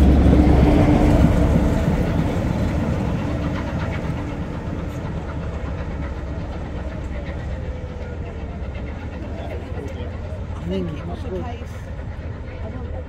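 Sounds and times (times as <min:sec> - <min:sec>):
diesel locomotive passing: 0:00.0 - 0:13.0
train coaches rolling: 0:00.0 - 0:13.0.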